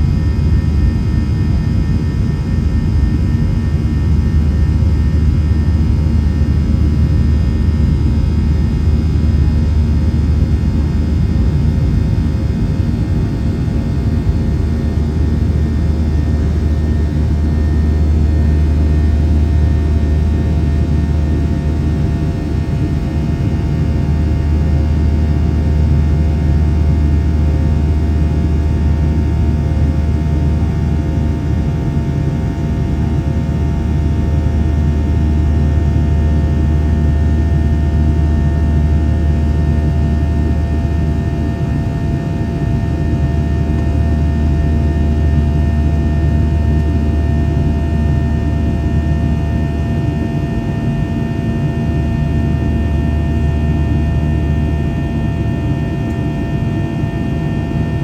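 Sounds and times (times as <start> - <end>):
jet engine rumble and airflow: 0.0 - 58.0.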